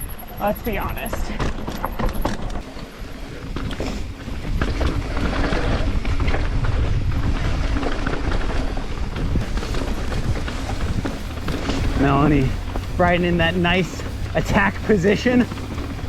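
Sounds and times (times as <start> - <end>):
bike rattling over bumps: 0.0 - 16.0
wind buffeting microphone: 0.0 - 16.0
tyres rumbling on dirt: 0.2 - 16.0.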